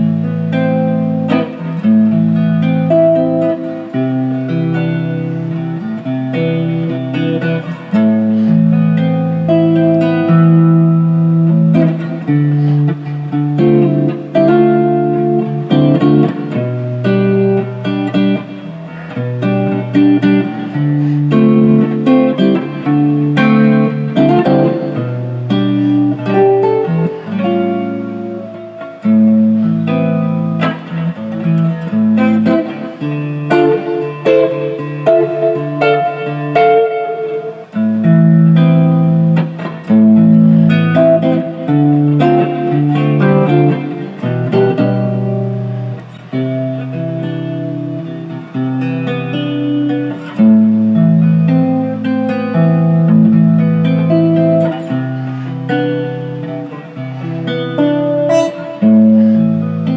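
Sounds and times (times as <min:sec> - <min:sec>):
plucked guitar: 0:00.0 - 0:59.9.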